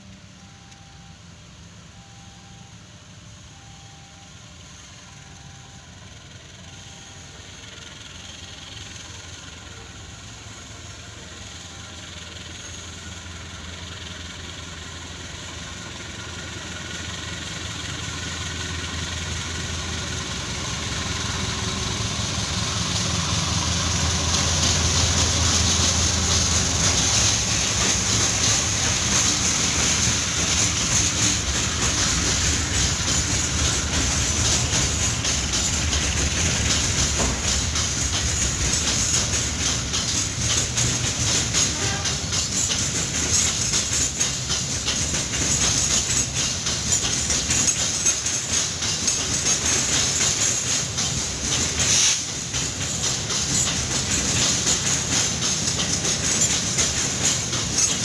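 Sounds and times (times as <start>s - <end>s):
locomotive engine rumble: 0.0s - 58.0s
train wheels on rails: 0.0s - 58.0s.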